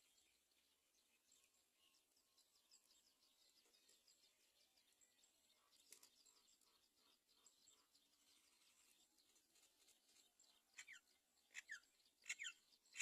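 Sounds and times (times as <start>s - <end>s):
faint rapid bird chirping: 0.0s - 13.0s.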